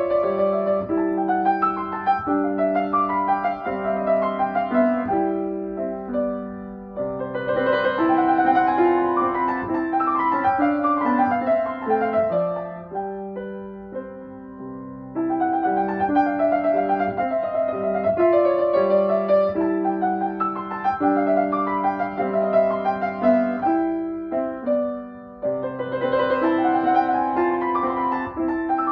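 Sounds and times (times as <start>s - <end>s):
grand piano playing: 0.0s - 28.9s.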